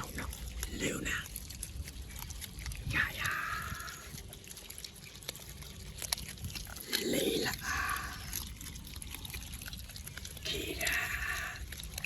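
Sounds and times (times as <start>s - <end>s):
water clicks and drips: 0.0s - 12.0s.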